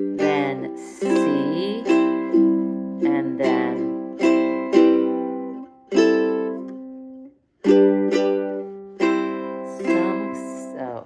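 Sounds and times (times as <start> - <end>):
ukulele strummed slowly: 0.0 - 11.0.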